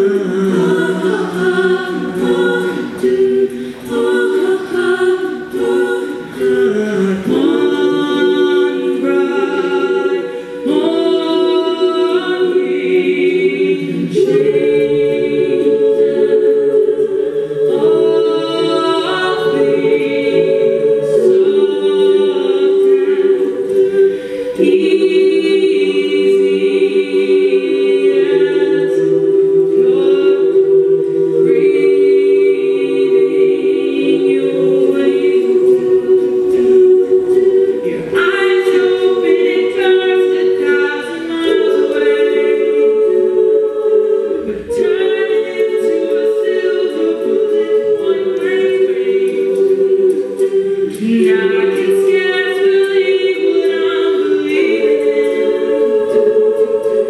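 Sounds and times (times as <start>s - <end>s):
women singing a cappella: 0.0s - 57.0s.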